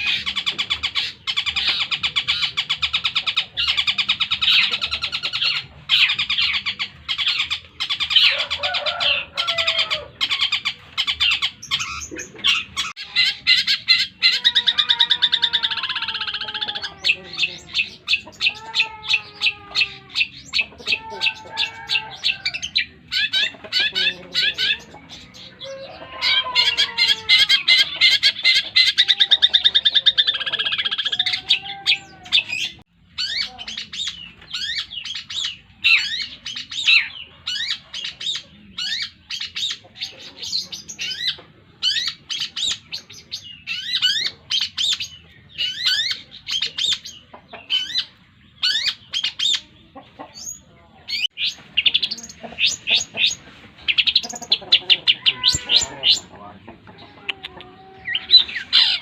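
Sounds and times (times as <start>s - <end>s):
bird singing with rattling trill: 0.0s - 49.7s.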